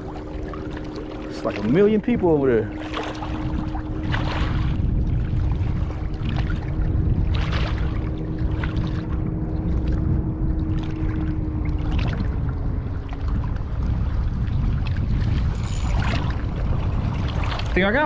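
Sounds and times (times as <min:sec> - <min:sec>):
boat motor hum: 0:00.0 - 0:18.0
low rumble: 0:00.0 - 0:18.0.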